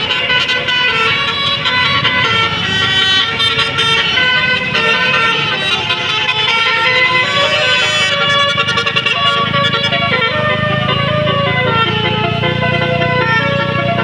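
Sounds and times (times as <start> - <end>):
multi-trumpet bus horn tune: 0.0 - 14.0.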